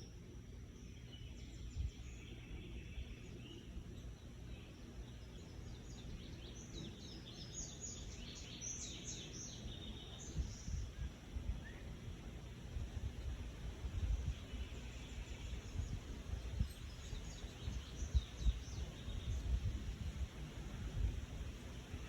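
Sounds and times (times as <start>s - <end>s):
bird chirps: 0.0s - 12.1s, 14.0s - 20.0s
low outdoor rumble: 0.0s - 22.0s.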